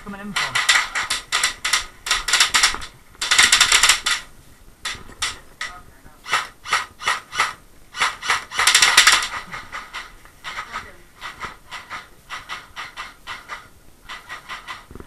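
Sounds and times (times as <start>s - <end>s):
pellets striking wooden hut: 0.0s - 15.0s
airsoft gunfire bursts: 0.2s - 5.4s, 6.2s - 15.0s.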